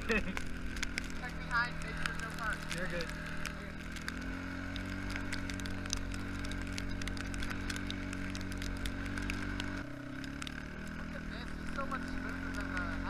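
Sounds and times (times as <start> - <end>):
small scattered clicks: 0.0 - 13.0
vehicle engine humming: 0.0 - 13.0.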